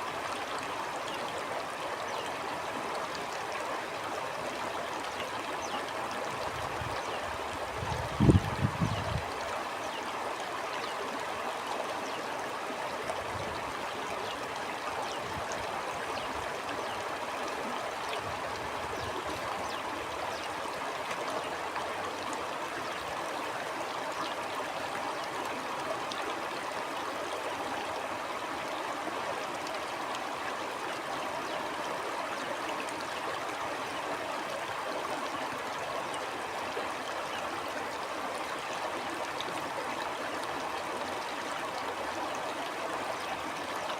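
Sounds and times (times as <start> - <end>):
stream water flowing: 0.0 - 43.9.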